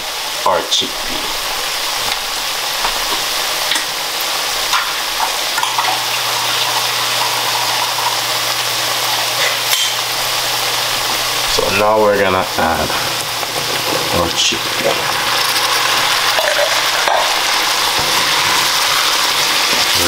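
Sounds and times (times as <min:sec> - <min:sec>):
vegetables sizzling in hot oil: 0:00.0 - 0:20.0
oil popping: 0:01.7 - 0:11.8, 0:12.4 - 0:20.0.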